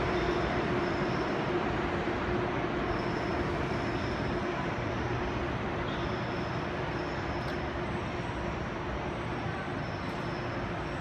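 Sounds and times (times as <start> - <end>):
faint high whine: 0.0 - 11.0
low rumble of trains and traffic: 0.0 - 11.0.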